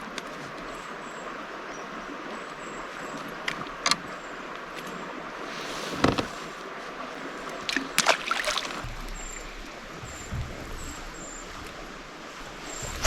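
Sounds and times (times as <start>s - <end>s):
water lapping around kayak: 0.0s - 13.0s.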